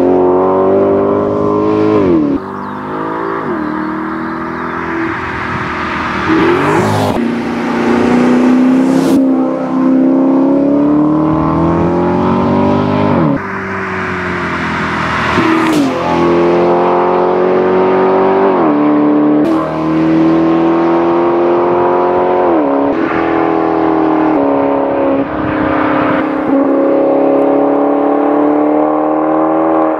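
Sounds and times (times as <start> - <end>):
car engine accelerating hard: 0.0 - 29.9.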